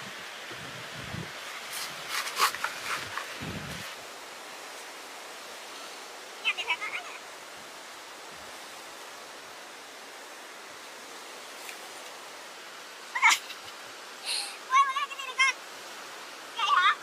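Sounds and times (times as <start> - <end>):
surf hissing: 0.0 - 17.0.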